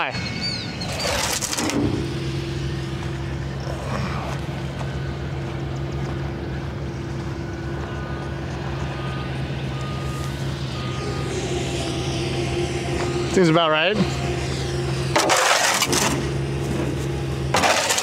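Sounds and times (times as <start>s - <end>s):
cart engine idling: 1.8s - 18.0s.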